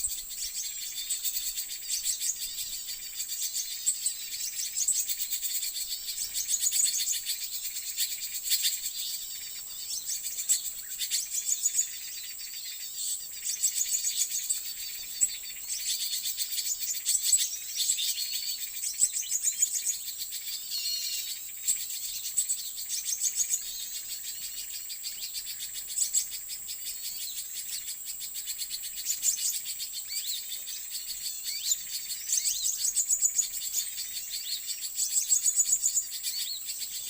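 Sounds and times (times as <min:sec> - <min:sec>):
birds chirping rapidly: 0:00.0 - 0:37.0.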